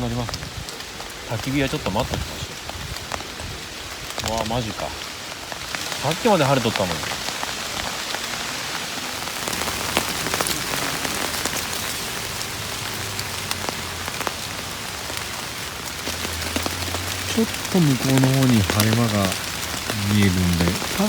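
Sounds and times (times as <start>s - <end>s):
rain on a tarp: 0.0s - 21.0s.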